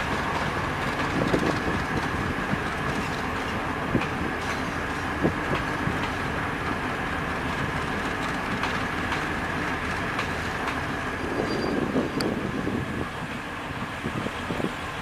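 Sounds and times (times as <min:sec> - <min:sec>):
train rumble: 0:00.0 - 0:15.0
train wheels clicking over rail joints: 0:00.0 - 0:15.0.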